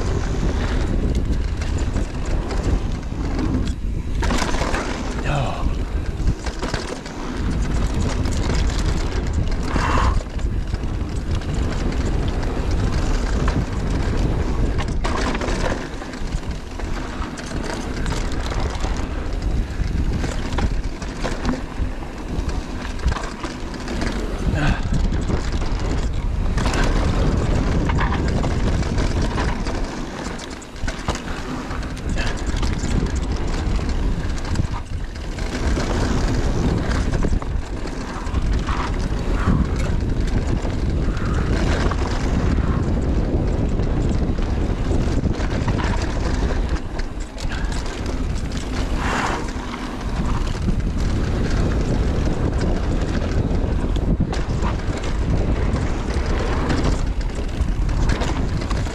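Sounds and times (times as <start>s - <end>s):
bike tyre and trail noise: 0.0s - 58.9s
wind on microphone: 0.0s - 58.9s.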